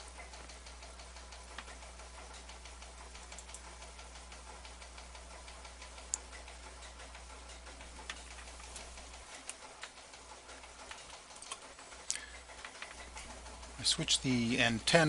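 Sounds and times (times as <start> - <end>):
faint irregular ticking and crackle: 0.0 - 15.0
low electrical hum: 0.0 - 15.0.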